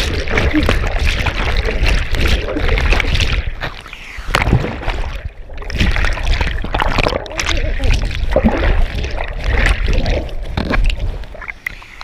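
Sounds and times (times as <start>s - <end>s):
muffled underwater water rush: 0.0s - 12.0s.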